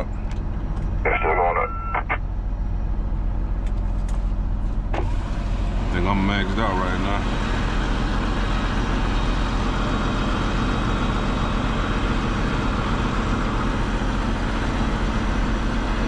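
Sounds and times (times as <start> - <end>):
diesel truck engine humming: 0.0 - 16.0.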